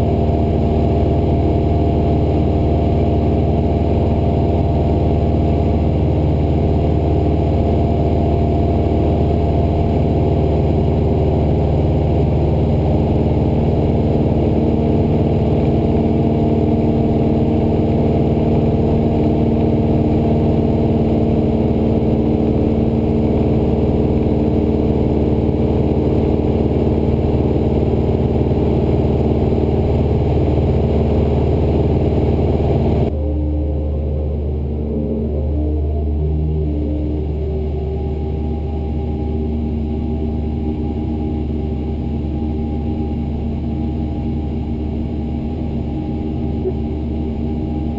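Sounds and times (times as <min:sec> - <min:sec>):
propeller plane engine droning: 0:00.0 - 0:47.9.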